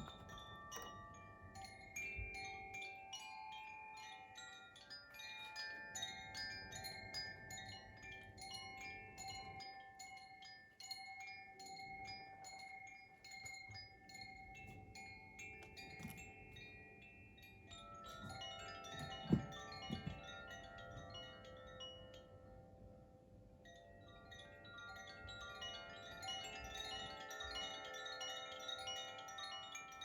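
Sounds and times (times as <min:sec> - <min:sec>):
wind chime ringing: 0:00.0 - 0:30.0.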